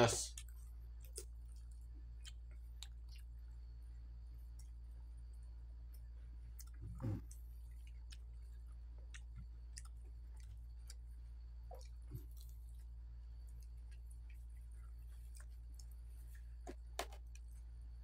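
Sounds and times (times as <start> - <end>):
steady low hum: 0.0 - 18.0
chewing and wet mouth clicks: 0.3 - 17.8.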